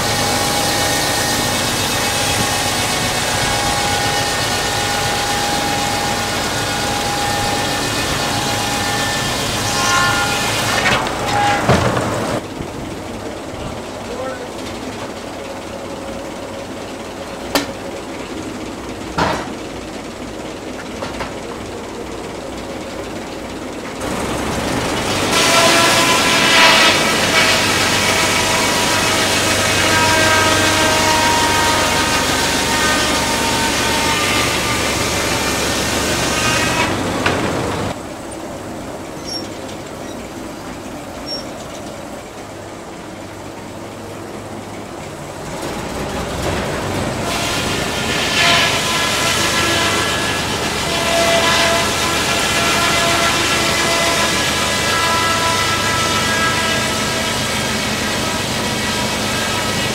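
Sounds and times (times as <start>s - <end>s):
saw whining through a log: 0.0s - 38.0s, 45.6s - 59.9s
running sawmill machinery: 0.0s - 59.9s.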